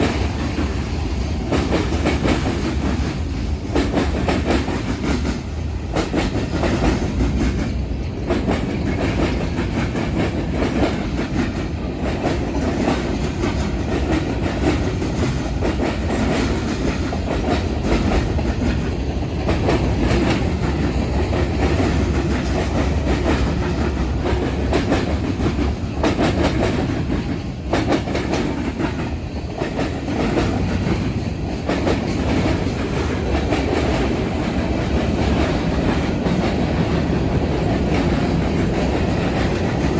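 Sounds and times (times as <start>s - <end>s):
train rumble: 0.0s - 39.9s
train wheels clattering: 0.0s - 39.9s.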